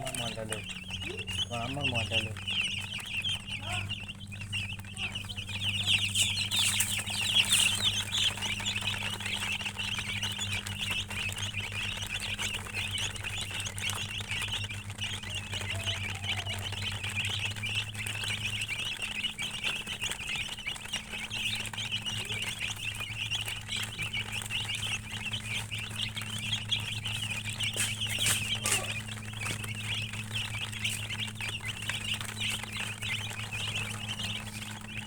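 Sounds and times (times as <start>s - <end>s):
chicks peeping: 0.0s - 35.0s
steady low hum: 0.0s - 35.0s.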